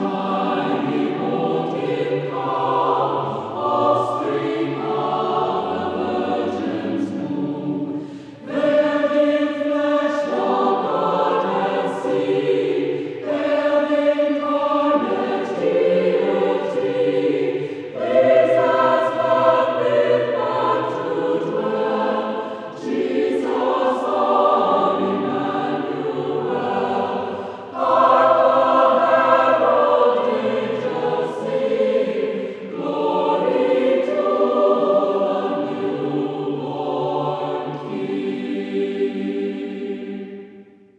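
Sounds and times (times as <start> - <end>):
choir singing to music: 0.0 - 40.9.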